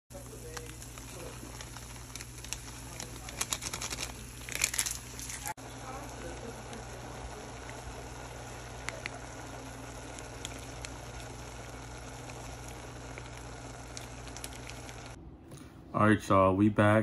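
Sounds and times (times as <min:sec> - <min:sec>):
pot of noodles boiling: 0:00.1 - 0:15.2
low steady hum: 0:00.1 - 0:17.0.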